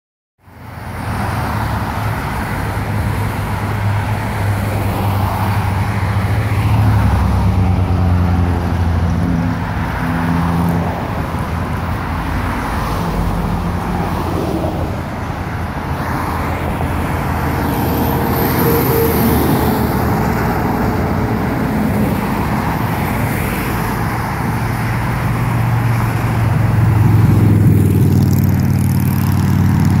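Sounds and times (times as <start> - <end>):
cars passing: 0.4 - 30.0
diesel truck drone: 0.4 - 30.0
refuse truck approaching: 0.7 - 30.0.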